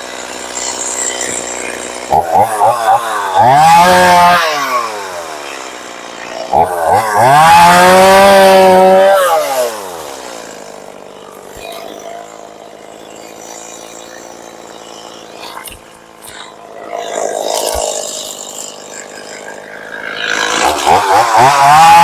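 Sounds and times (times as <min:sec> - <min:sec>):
chainsaw engine revving and idling: 0:00.0 - 0:22.0.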